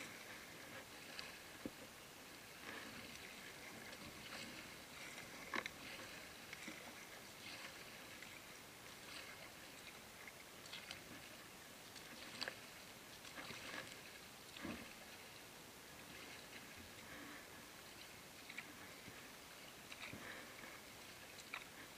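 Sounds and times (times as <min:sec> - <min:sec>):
water lapping against kayak hull: 0:00.0 - 0:21.9.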